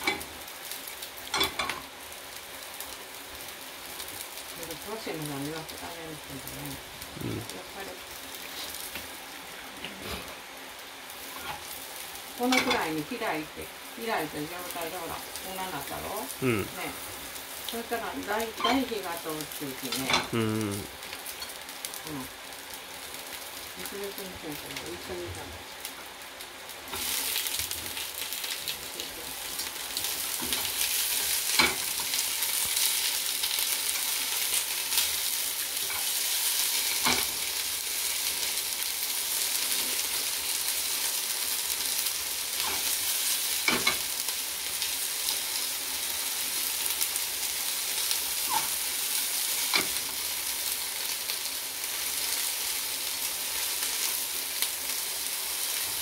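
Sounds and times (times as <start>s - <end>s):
food sizzling in oil: 0.0s - 56.0s.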